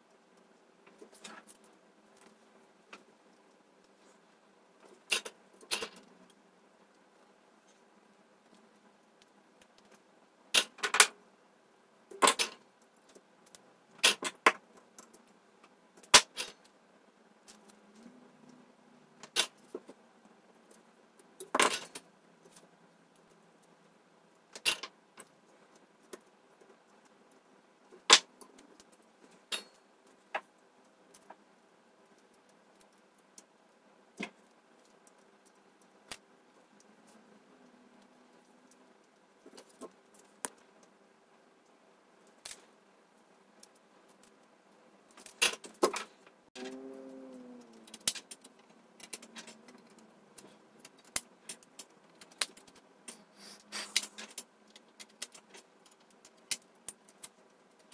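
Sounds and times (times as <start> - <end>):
faint steady hum: 0.0 - 57.9.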